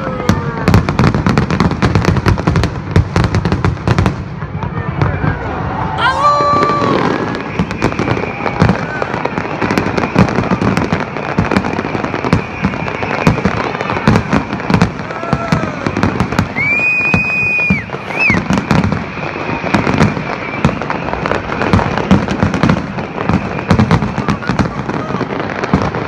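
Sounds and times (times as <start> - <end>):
fireworks bangs and crackles: 0.0 - 26.0
high firework whistle: 5.0 - 25.9.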